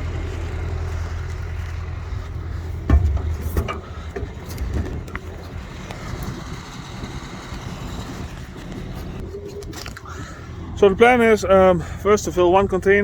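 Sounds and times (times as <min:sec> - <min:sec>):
farm vehicle engine running: 0:00.0 - 0:13.0.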